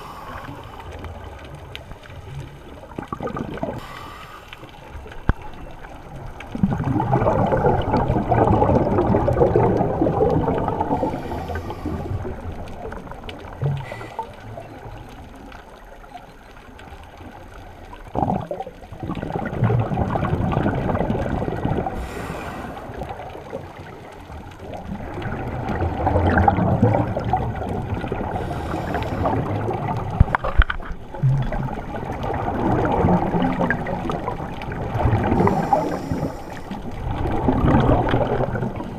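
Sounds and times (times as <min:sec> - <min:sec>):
gurgling exhaled bubbles underwater: 0:00.0 - 0:38.9.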